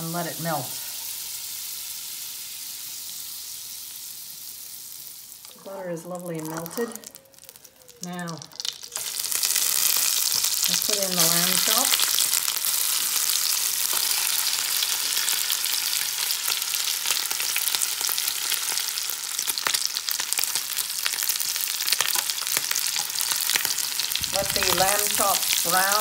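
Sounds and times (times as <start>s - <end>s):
meat sizzling in butter: 0.0s - 26.0s.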